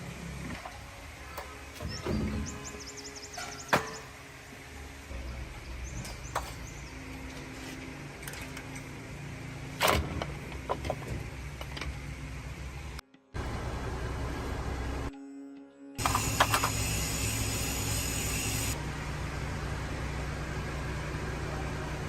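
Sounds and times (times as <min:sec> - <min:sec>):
low mechanical hum: 0:00.0 - 0:15.2, 0:16.0 - 0:22.0.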